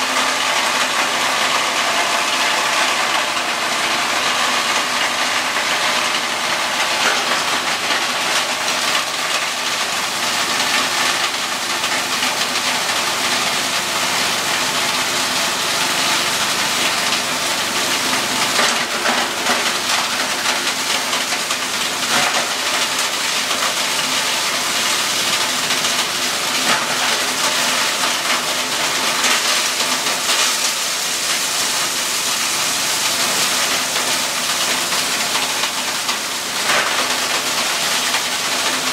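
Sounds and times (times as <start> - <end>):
shredder machine hum: 0.0 - 38.9
plastic crackling rattle in shredder: 4.2 - 38.9.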